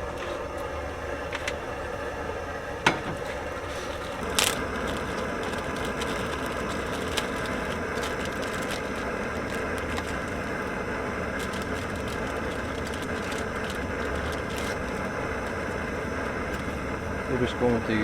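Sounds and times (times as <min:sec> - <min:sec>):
gas stove burner hissing: 0:00.0 - 0:18.0.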